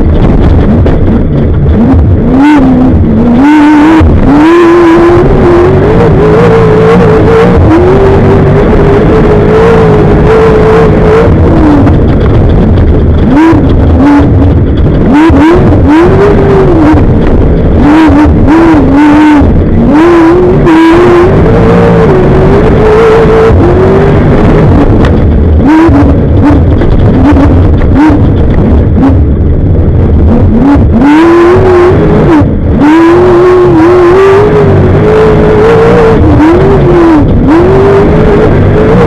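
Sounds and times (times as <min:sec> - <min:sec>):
race vehicle engine revving: 0:00.0 - 0:39.0.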